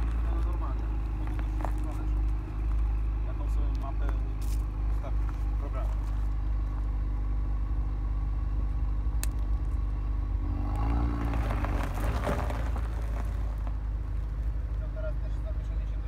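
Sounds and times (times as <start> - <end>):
car engine idling: 0.0 - 16.0
exhaust crackling: 0.0 - 16.0.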